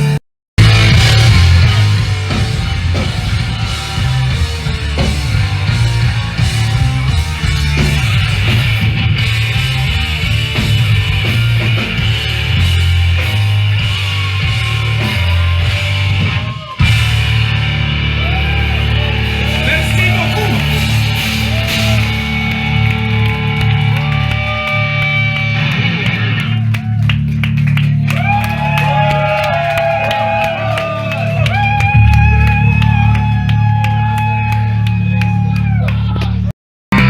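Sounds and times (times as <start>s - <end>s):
punk band playing: 0.0s - 36.2s.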